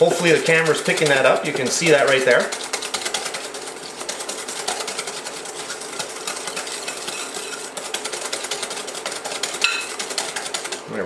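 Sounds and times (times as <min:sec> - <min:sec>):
whisk clicking against glass bowl: 0:00.1 - 0:10.9.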